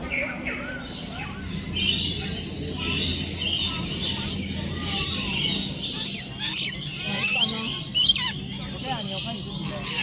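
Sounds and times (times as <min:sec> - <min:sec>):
birds chirping and calling: 0:00.0 - 0:10.0
steady low hum: 0:00.0 - 0:10.0.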